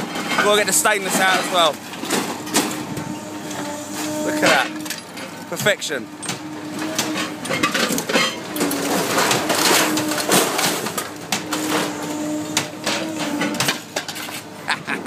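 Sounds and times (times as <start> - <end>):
metal clanking and crunching: 0.0 - 15.0.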